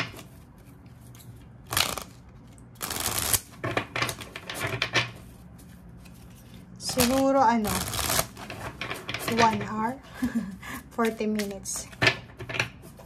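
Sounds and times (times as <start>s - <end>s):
cards being shuffled: 0.0s - 9.7s, 10.8s - 12.0s.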